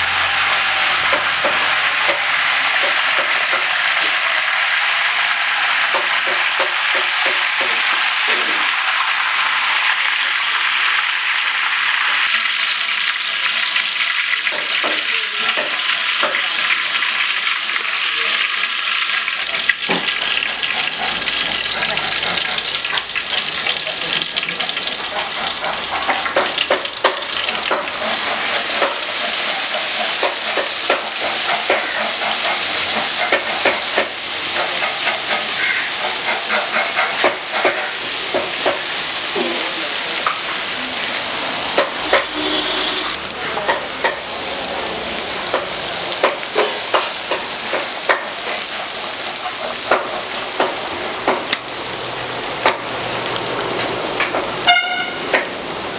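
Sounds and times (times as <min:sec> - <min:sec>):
oil crackling and popping: 0:00.0 - 0:55.8
fish deep-frying in hot oil: 0:00.0 - 0:55.9.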